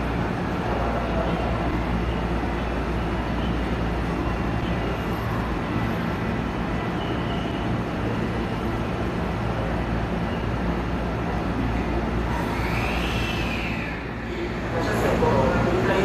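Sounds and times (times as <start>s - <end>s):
electric train humming at rest: 0.0s - 16.0s.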